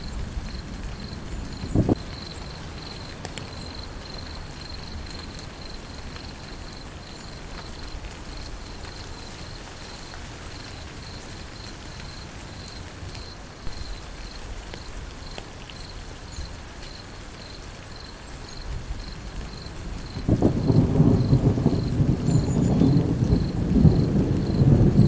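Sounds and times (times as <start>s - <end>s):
insect chirping: 0.0s - 25.0s
rain falling: 0.0s - 25.0s.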